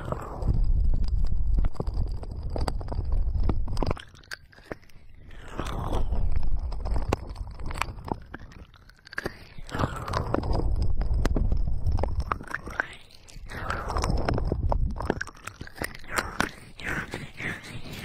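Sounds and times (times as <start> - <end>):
muffled rumbling of hands on microphone: 0.0 - 4.0, 4.7 - 8.7, 9.4 - 18.0
scratchy rustling: 0.0 - 18.0.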